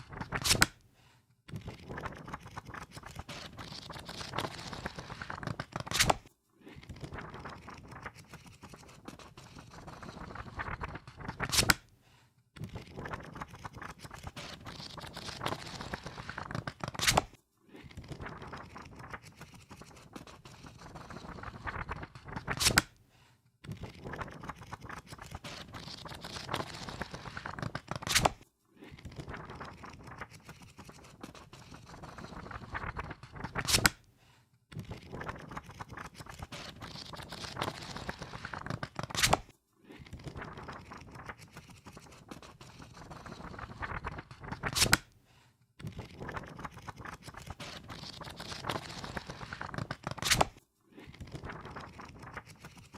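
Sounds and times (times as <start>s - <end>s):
book pages flipping: 0.0s - 0.8s, 1.5s - 11.9s, 12.6s - 23.0s, 23.6s - 34.1s, 34.7s - 45.2s, 45.8s - 52.9s.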